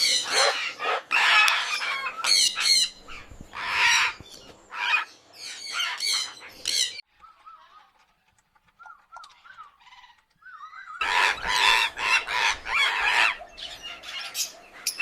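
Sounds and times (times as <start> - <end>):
parrot squawking: 0.0 - 7.9, 8.8 - 15.0.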